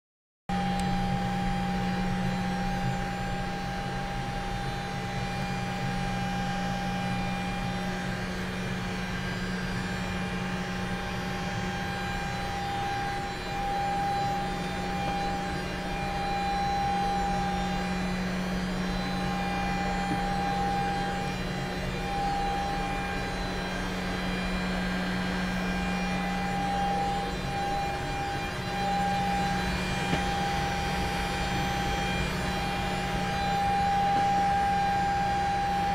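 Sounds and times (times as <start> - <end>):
high whine: 0.5 - 35.9
machinery low drone: 0.5 - 35.9.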